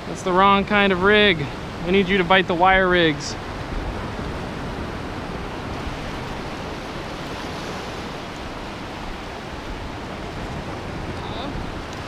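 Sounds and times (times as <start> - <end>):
surf washing up beach: 0.0 - 12.0
wind on microphone: 0.0 - 12.0.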